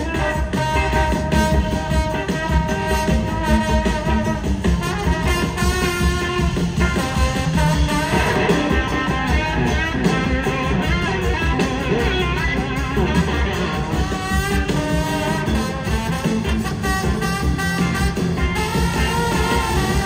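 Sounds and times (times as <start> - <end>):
electric guitar: 0.0 - 20.0
live rock band playing: 0.0 - 20.0
trombone: 0.0 - 20.0.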